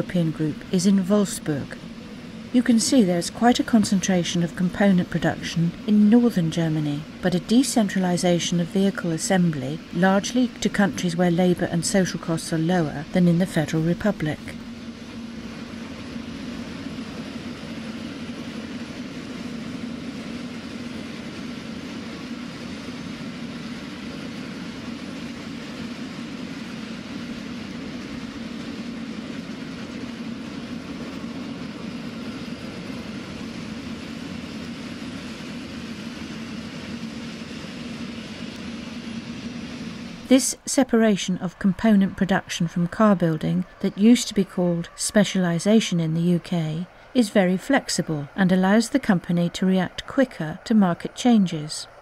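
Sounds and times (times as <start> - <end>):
constant low hum: 0.0 - 52.0.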